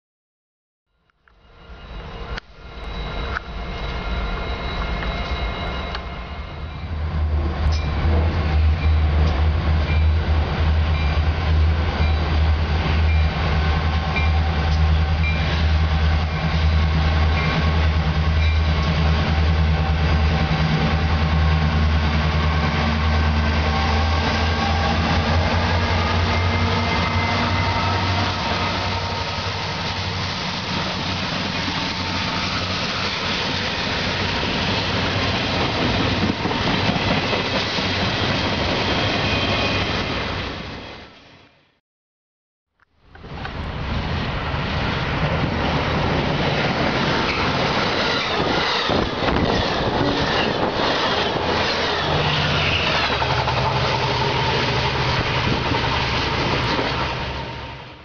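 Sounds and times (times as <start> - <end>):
diesel locomotive engine drone: 0.9 - 41.8, 43.0 - 58.0
rail cars rumbling on track: 1.2 - 41.8, 43.1 - 58.0.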